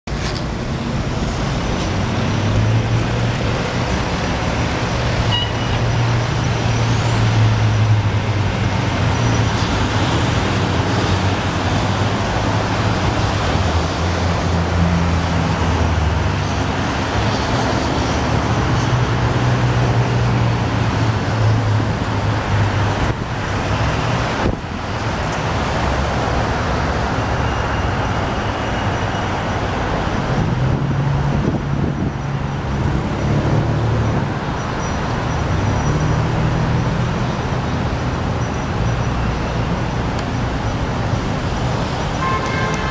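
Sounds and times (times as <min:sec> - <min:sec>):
street traffic noise: 0:00.0 - 0:42.9
vehicle engines droning: 0:00.1 - 0:42.9.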